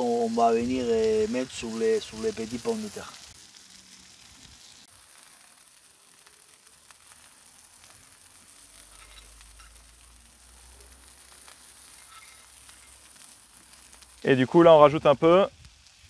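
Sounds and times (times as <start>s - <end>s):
potatoes sizzling on hot plate: 0.0s - 16.0s.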